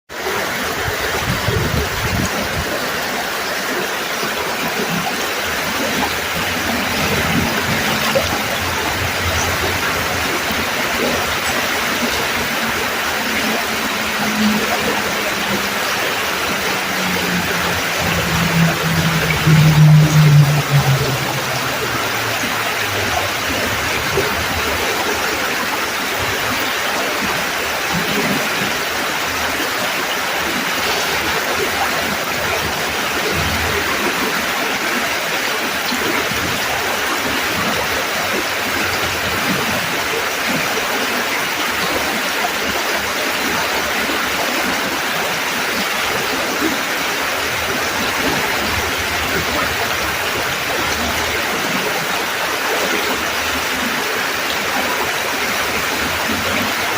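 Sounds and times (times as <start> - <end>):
creek water rushing: 0.1 - 56.9.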